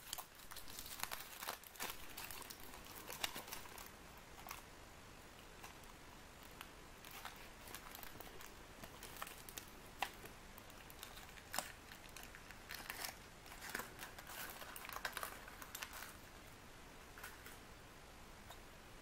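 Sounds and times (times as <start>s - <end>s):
chocolate shell crackling and snapping: 0.0s - 4.7s, 5.3s - 16.2s
foil crinkling: 0.0s - 4.7s, 5.5s - 16.3s.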